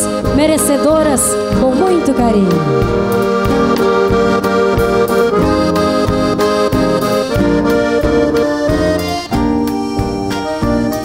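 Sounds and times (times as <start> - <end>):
accordion melody: 0.0 - 11.0
acoustic guitar: 0.0 - 11.0
bass: 0.0 - 11.0
steady drum beat: 0.2 - 11.0.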